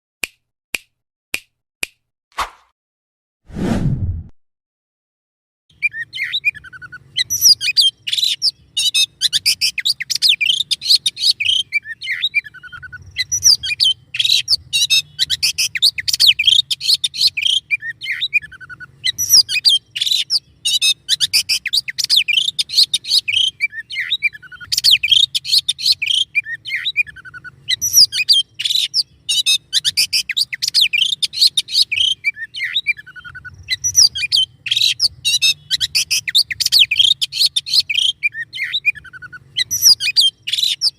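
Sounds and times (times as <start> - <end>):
songbird harsh rapid song: 5.7 - 40.9.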